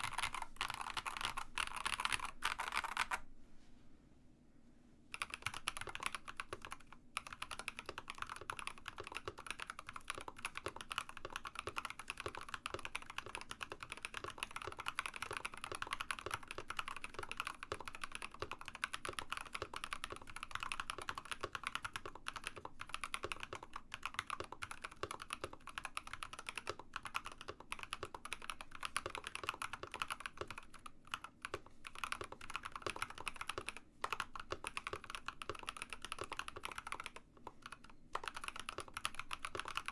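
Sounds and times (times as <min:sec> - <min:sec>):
mechanical keyboard typing: 0:00.0 - 0:03.2, 0:05.2 - 0:39.9.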